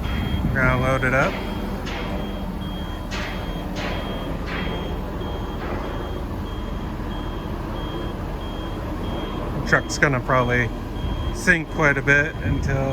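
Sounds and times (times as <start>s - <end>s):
backup alarm beeping: 0.0s - 12.9s
diesel engine rumble: 0.0s - 12.9s.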